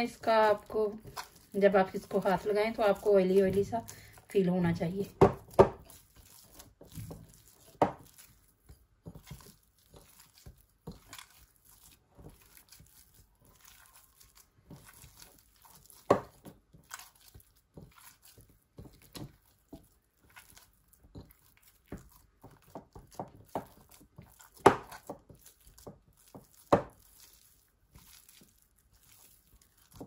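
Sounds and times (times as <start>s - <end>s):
hands kneading dough: 0.0s - 30.0s.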